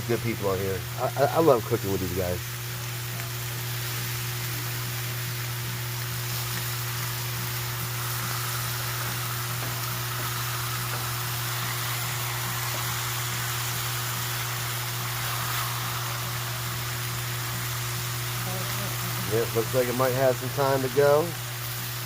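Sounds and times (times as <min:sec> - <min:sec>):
constant low hum: 0:00.0 - 0:22.0
meat sizzling on a griddle: 0:00.0 - 0:22.0.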